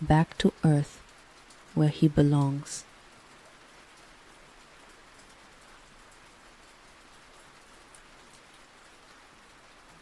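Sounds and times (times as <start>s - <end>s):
raindrop ticks: 0.0s - 10.0s
soft steady rain: 0.0s - 10.0s.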